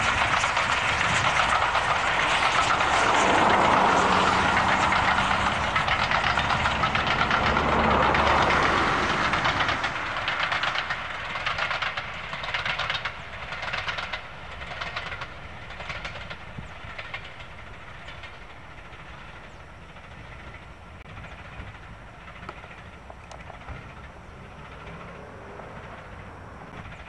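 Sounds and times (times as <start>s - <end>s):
steam locomotive exhaust beats: 0.0s - 27.0s.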